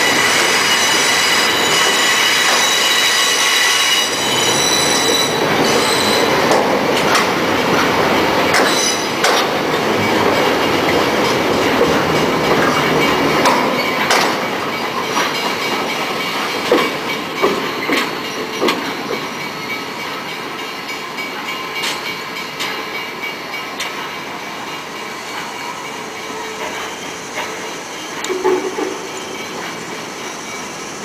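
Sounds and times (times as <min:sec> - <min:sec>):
train coaches rolling by: 0:00.0 - 0:31.0
wheels clacking over rail joints: 0:00.0 - 0:31.0.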